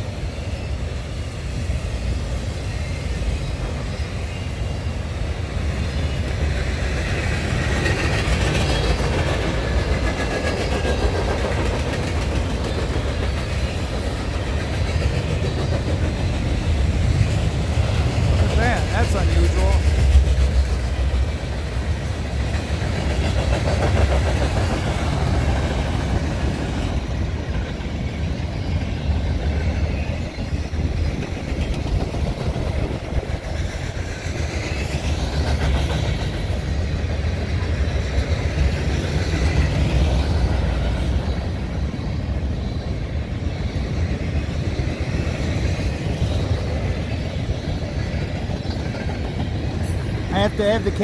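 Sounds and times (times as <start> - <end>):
freight train wheels rumbling: 0.0 - 51.0.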